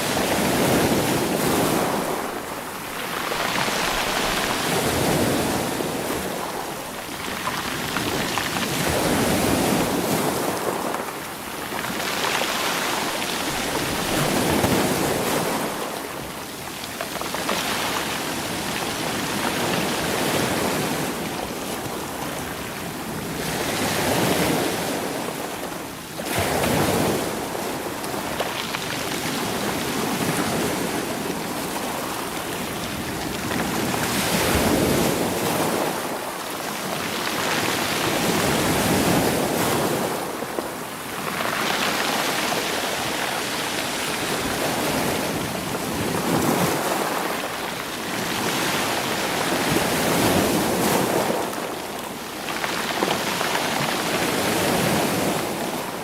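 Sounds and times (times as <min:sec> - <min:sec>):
waves washing over rocks: 0:00.0 - 0:56.0.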